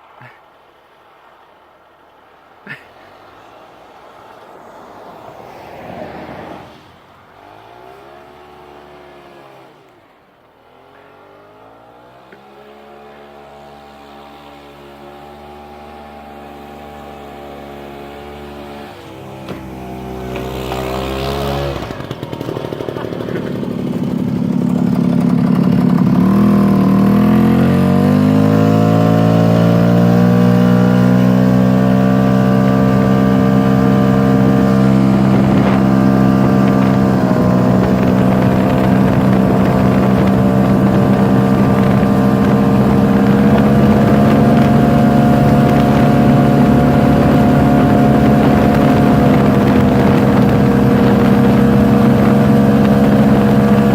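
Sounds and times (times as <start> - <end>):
snowmobile engine accelerating: 2.6 - 53.9.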